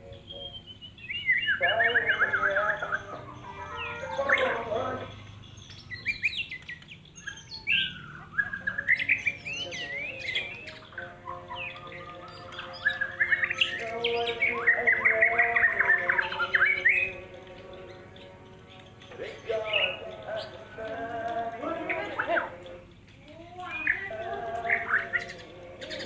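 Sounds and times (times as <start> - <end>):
songbirds singing: 0.0 - 26.0
steady held tones: 0.0 - 26.0.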